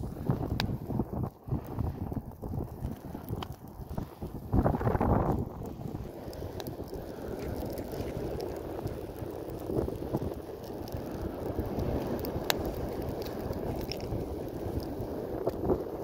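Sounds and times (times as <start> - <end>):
wind rumbling on microphone: 0.0 - 16.0
wood fire crackling: 0.0 - 16.0.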